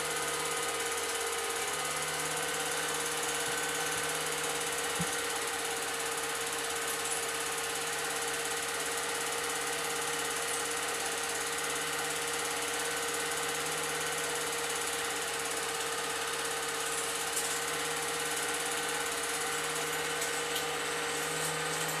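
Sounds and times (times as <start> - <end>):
film projector running: 0.0 - 22.0.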